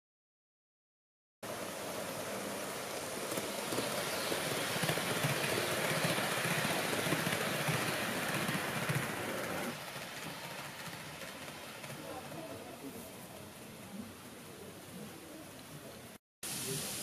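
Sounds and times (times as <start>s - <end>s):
model train wheels on track: 1.4s - 17.0s.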